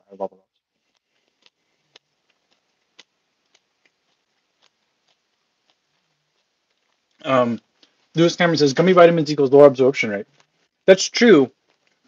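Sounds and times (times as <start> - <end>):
faint irregular clicks: 0.5 - 8.2, 9.6 - 12.0.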